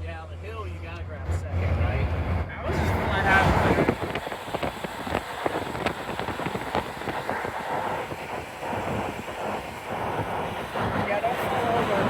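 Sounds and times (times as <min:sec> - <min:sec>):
rumbling ride noise: 0:00.0 - 0:12.0.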